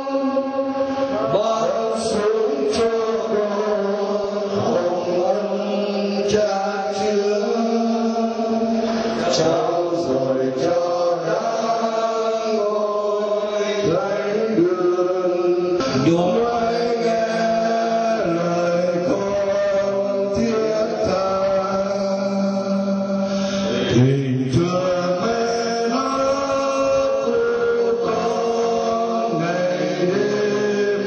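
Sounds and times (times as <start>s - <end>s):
men singing in unison: 0.0s - 31.0s.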